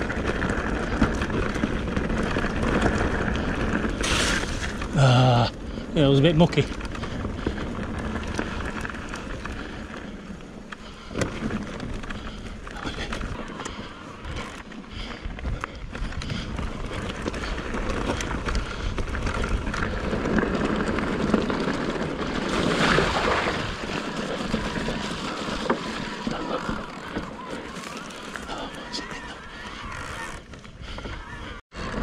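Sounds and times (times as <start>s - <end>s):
bike rattles and knocks: 0.0s - 32.0s
bike tyres on dirt and stones: 0.0s - 32.0s.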